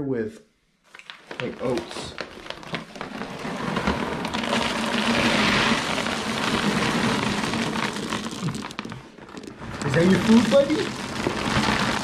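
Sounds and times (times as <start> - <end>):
dry kibble pouring into plastic bin: 1.2 - 12.0.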